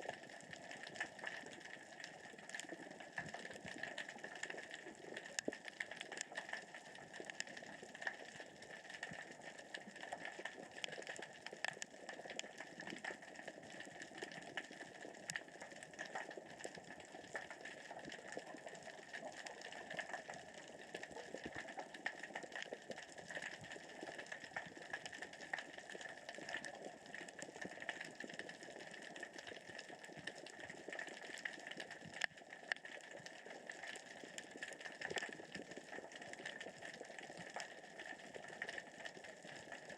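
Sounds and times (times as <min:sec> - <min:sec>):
underwater rocks rolling crackle: 0:00.0 - 0:39.9.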